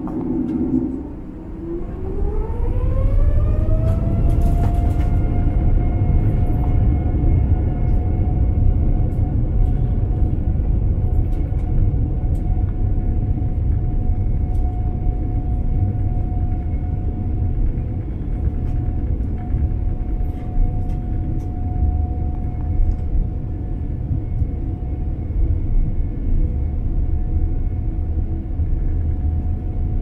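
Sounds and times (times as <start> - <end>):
jet engine whine: 0.0 - 30.0
jet engines rumbling: 0.0 - 30.0.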